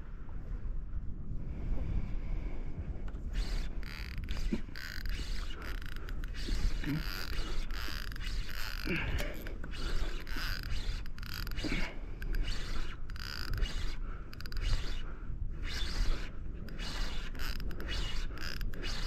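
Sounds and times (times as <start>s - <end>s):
wind and water rumble: 0.0s - 19.0s
fishing reel clicking and whirring: 3.1s - 19.0s.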